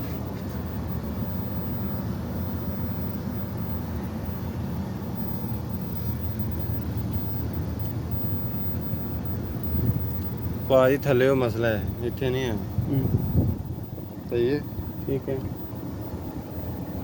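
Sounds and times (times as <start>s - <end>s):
air conditioning rumble: 0.0s - 17.0s.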